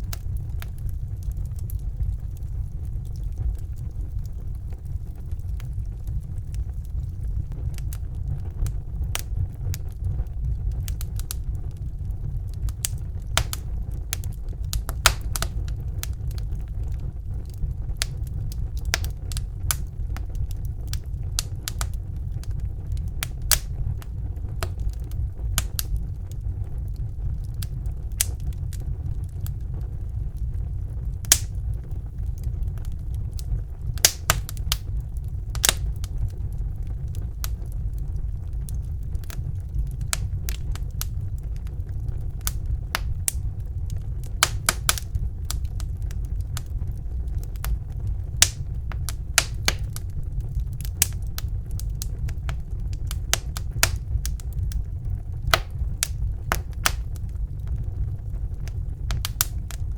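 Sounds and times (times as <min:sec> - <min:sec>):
fire crackling and popping: 0:00.0 - 0:59.9
low roar of flames: 0:00.0 - 0:59.9.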